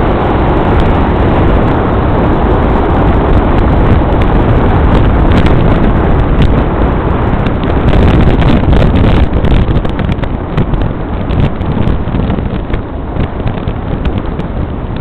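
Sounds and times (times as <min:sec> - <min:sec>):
moving vehicle rumble: 0:00.0 - 0:15.0
wind buffeting microphone: 0:00.0 - 0:15.0.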